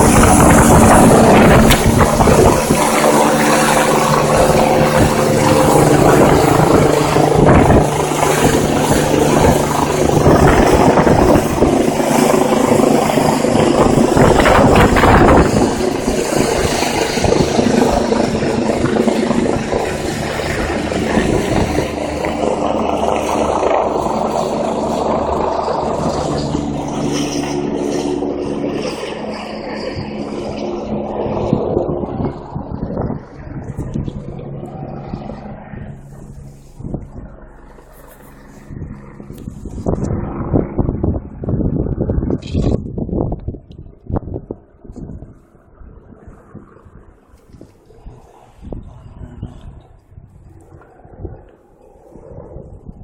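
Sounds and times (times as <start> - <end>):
helicopter turbines and rotor: 0.0 - 53.0.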